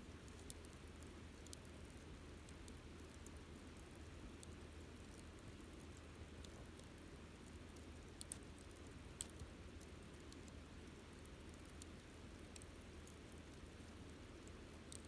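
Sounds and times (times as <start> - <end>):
campfire burning: 0.1 - 15.0
wood crackling and popping: 0.3 - 15.0.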